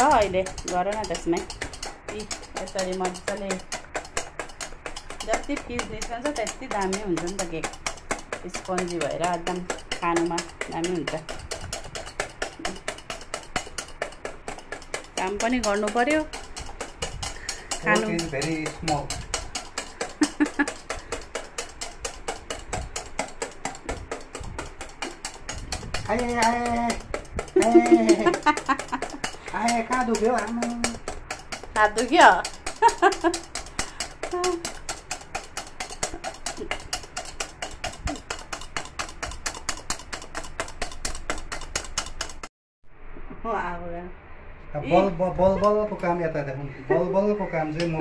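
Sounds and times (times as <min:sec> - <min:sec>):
utensil clicking against steel bowl: 0:00.0 - 0:42.5.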